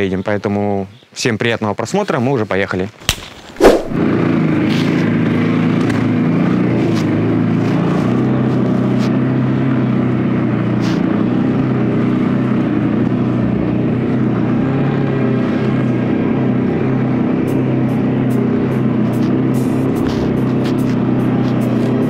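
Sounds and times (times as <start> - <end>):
atv engine running: 4.0 - 22.0.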